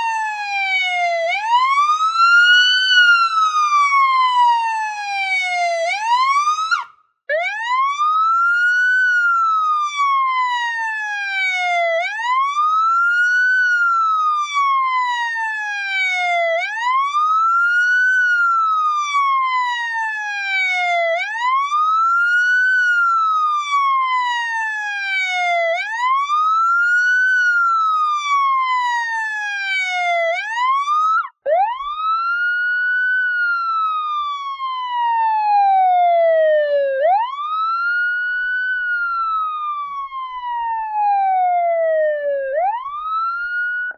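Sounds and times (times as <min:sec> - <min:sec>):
police siren wailing: 0:00.0 - 0:43.9.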